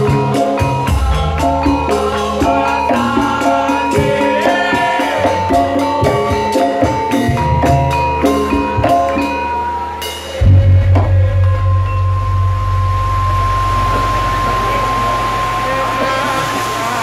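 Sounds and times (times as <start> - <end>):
drum and percussion strokes: 0.0 - 17.0
metallophone melody: 0.0 - 17.0.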